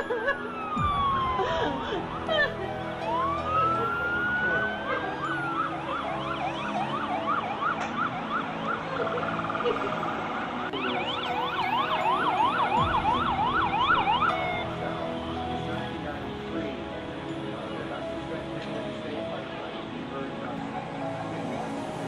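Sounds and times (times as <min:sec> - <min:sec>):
emergency vehicle sirens: 0:00.0 - 0:22.0.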